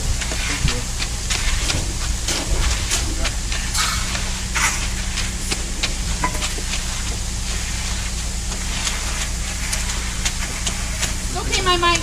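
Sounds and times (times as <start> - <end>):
low engine rumble: 0.0 - 12.0
tools scraping wet concrete: 0.0 - 12.0.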